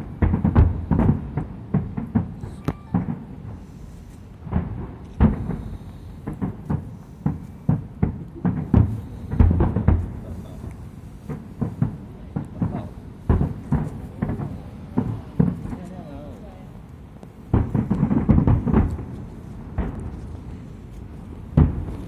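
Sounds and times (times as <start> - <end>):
fireworks booms and bangs: 0.0 - 22.0.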